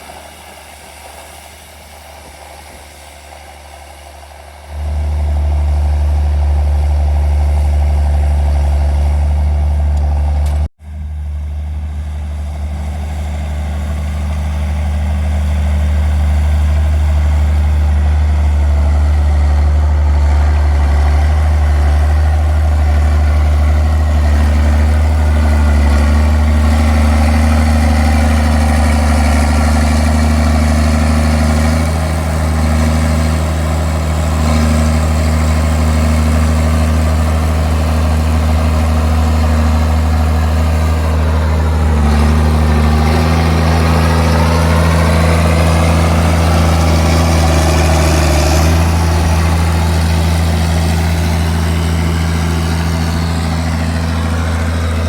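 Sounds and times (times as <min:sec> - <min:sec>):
diesel tractor engine droning: 0:00.0 - 0:55.0.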